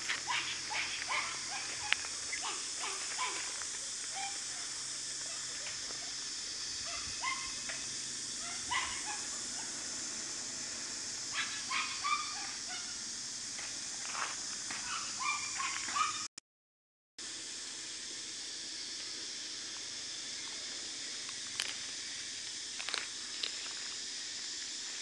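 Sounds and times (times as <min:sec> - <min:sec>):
steady high hiss: 0:00.0 - 0:15.6, 0:17.2 - 0:25.0.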